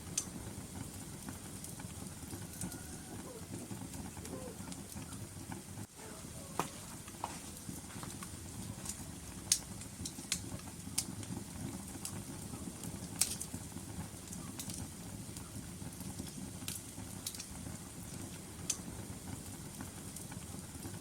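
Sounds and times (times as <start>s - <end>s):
fire rumbling: 0.0s - 21.0s.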